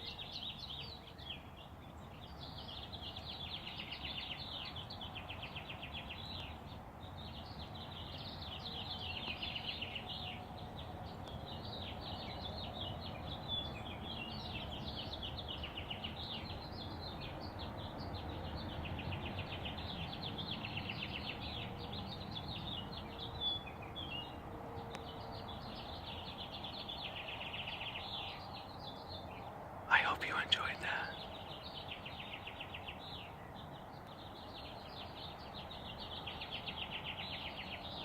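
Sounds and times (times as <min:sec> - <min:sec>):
songbirds singing: 0:00.0 - 0:38.0.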